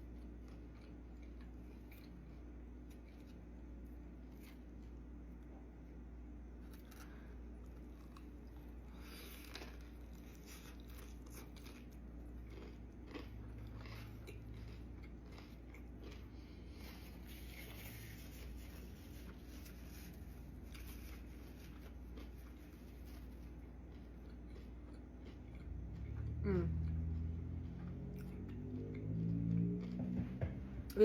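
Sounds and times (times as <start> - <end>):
crunchy chewing: 0.0 - 5.4, 6.5 - 30.2
faint low hum: 0.0 - 31.0.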